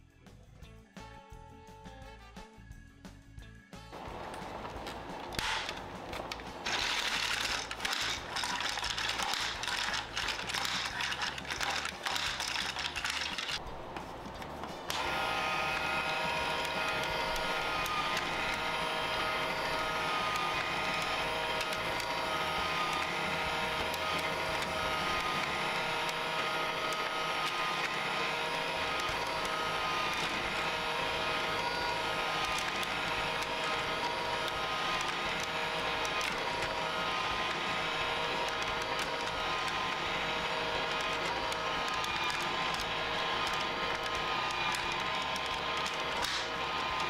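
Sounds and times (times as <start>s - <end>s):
toy motor whirring: 4.0s - 47.0s.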